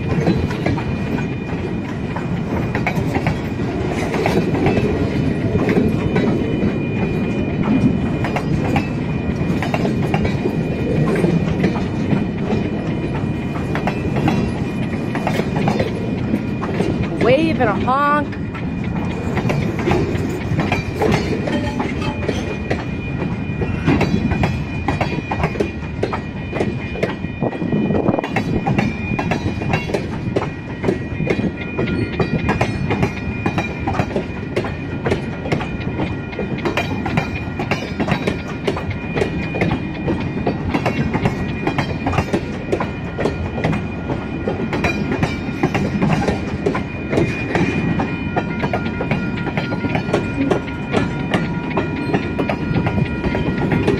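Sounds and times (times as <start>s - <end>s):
freight train rumbling past: 0.0s - 53.9s
wheels clacking over rail joints: 0.0s - 53.9s.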